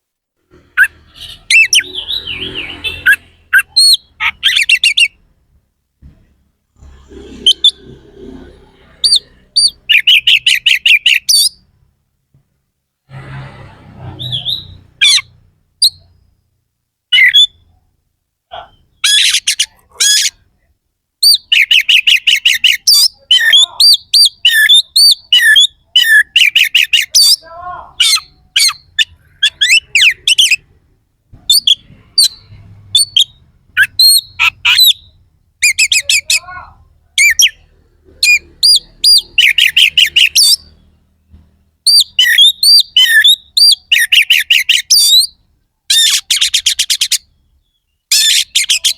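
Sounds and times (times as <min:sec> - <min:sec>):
bird singing harsh sharp notes: 0:00.5 - 0:05.2, 0:06.8 - 0:11.7, 0:13.1 - 0:16.5, 0:17.1 - 0:17.8, 0:18.5 - 0:20.4, 0:21.2 - 0:30.7, 0:31.5 - 0:48.9.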